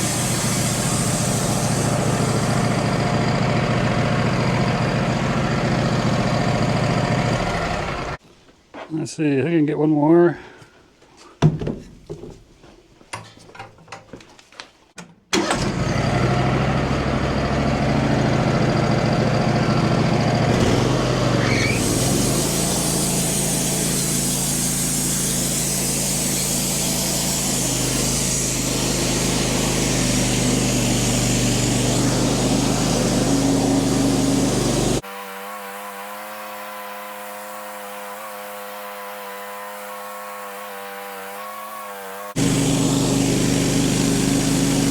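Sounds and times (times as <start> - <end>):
band sawmill sawing log: 0.0 - 8.2, 15.6 - 44.9.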